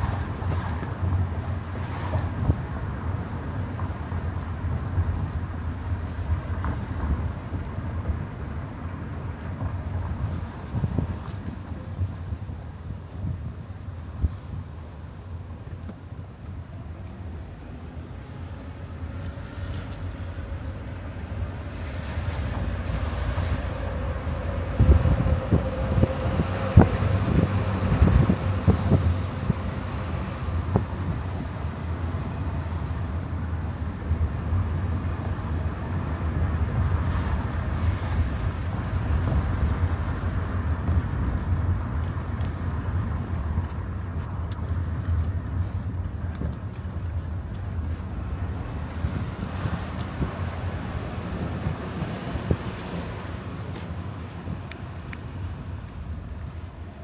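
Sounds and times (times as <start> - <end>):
car road rumble: 0.0 - 57.0.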